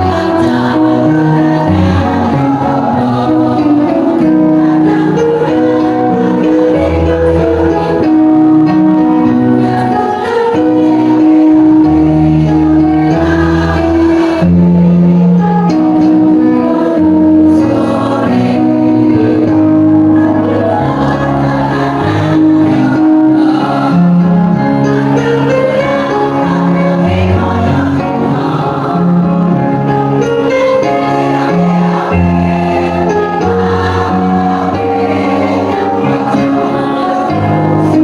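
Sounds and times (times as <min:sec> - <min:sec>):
choir singing chords: 0:00.0 - 0:38.0.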